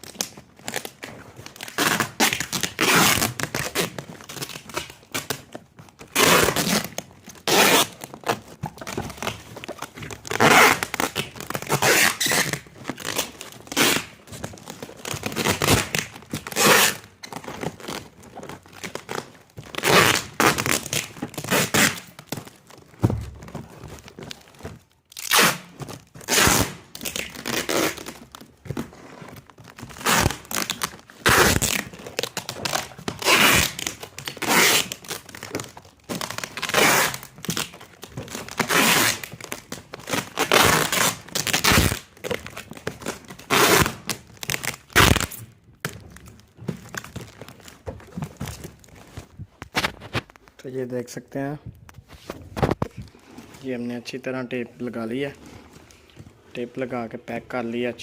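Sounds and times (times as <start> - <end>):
packing tape tearing off roll: 0.0 - 50.6
cardboard crinkling: 0.0 - 58.0.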